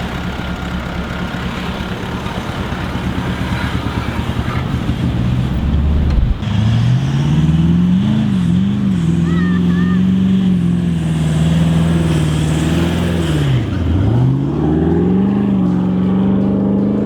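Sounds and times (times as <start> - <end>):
engine pulling under load: 0.0 - 17.0.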